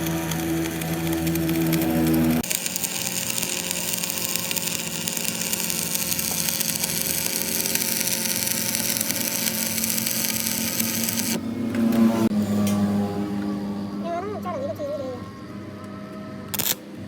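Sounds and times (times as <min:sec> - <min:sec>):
power tool running: 0:00.0 - 0:14.0.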